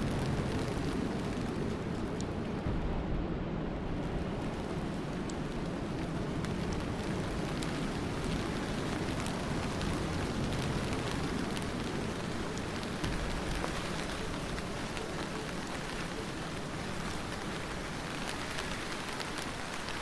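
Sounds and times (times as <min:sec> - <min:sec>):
raindrop ticks: 0:00.0 - 0:02.7, 0:04.0 - 0:20.0
steady rain hiss: 0:00.0 - 0:20.0.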